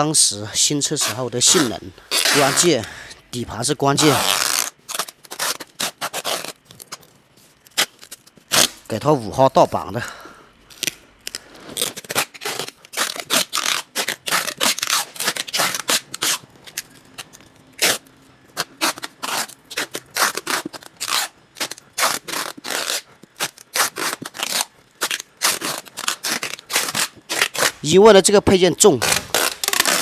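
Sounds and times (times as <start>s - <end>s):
packing tape pulled off roll: 0.9s - 2.9s, 4.0s - 9.1s, 10.7s - 27.9s, 28.8s - 30.0s.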